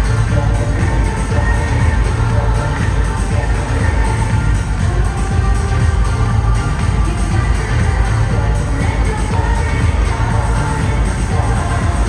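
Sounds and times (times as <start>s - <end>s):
loud pop music with pulsing bass: 0.0s - 12.0s.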